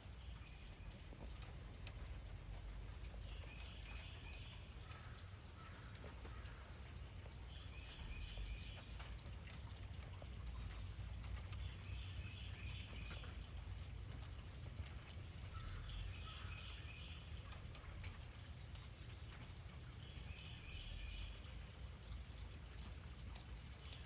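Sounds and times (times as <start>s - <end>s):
light rain patter and drips: 0.0s - 24.0s
songbirds singing and chirping: 0.1s - 24.0s.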